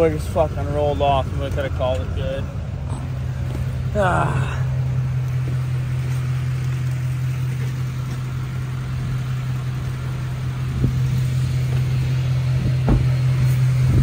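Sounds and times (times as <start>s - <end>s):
diesel pickup engine idling: 0.0s - 14.0s.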